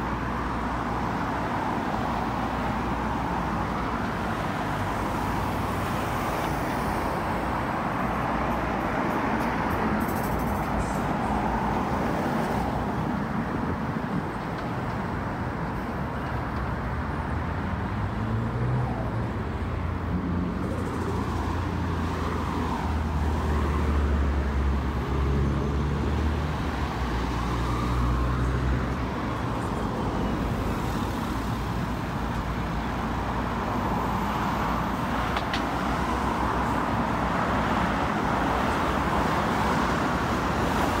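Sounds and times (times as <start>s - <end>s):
city street traffic: 0.0s - 41.0s.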